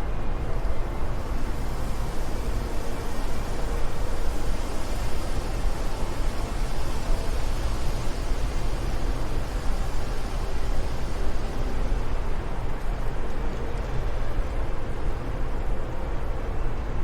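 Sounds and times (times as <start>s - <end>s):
steady wind blowing: 0.0s - 17.0s.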